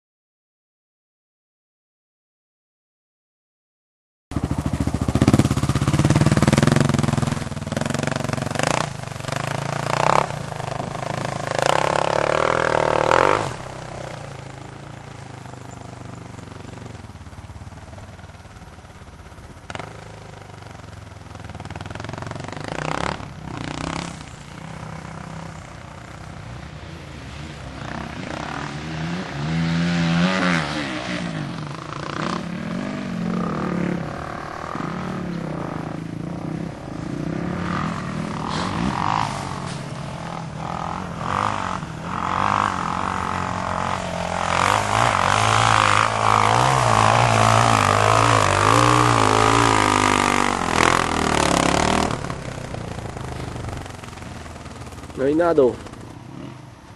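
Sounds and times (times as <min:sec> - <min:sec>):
dirt bike engines revving: 0:04.3 - 0:56.9.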